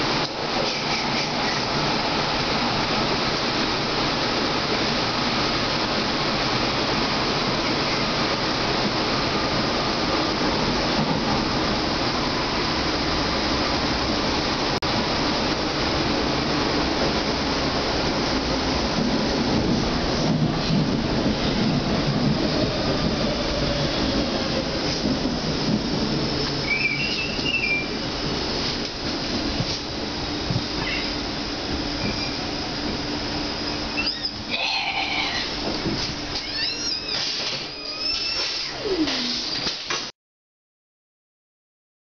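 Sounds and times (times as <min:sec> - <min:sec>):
train wheels rushing on rails: 0:00.0 - 0:36.5.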